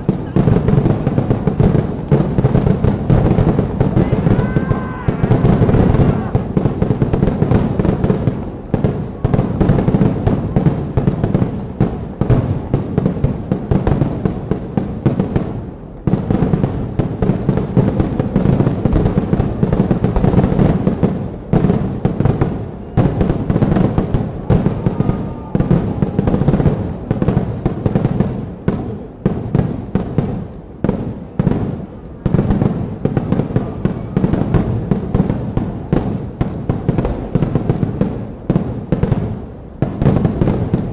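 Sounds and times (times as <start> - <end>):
firecracker explosions barrage: 0.0 - 40.9.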